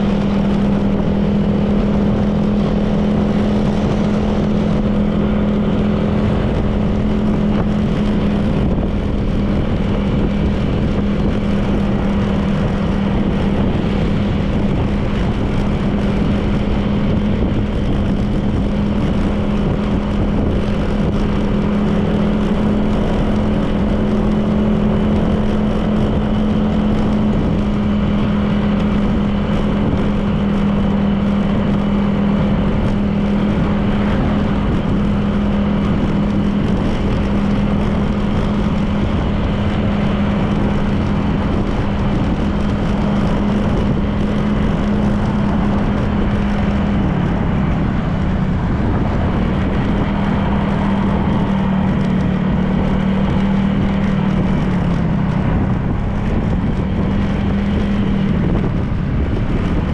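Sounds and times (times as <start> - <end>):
scooter engine droning: 0.0 - 59.9
wind and road noise: 0.0 - 59.9.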